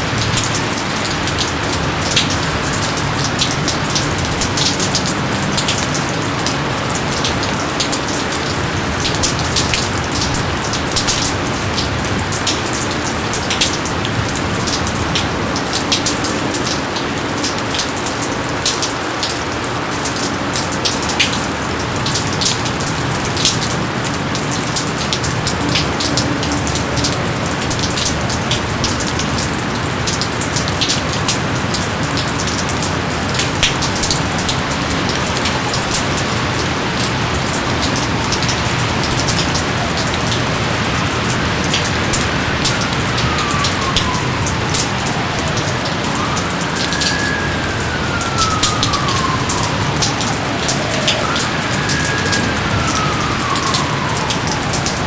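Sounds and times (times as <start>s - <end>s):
heavy rain hissing: 0.0s - 17.7s, 18.3s - 55.0s
raindrops ticking: 0.0s - 55.0s.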